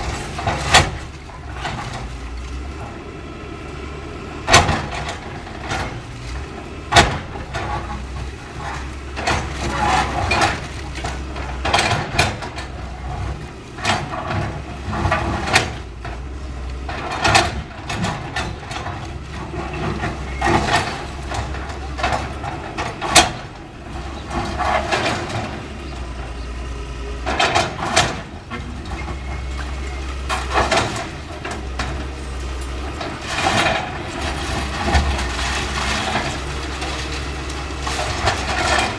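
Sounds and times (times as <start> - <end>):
debris crunching and crashing: 0.0 - 3.0, 4.4 - 26.4, 27.2 - 38.9
excavator diesel engine running: 0.0 - 38.9.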